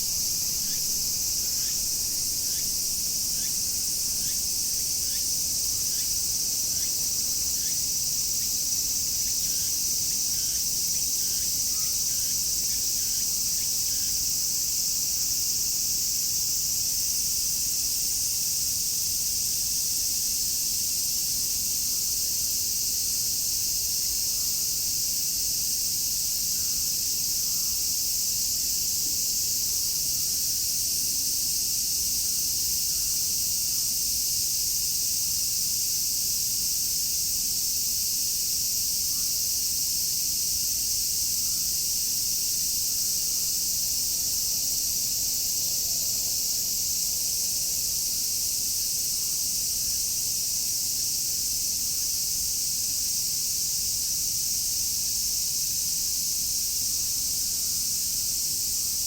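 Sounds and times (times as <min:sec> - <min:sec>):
chorus of cicadas buzzing: 0:00.0 - 0:59.0
faint short insect calls: 0:00.0 - 0:59.0.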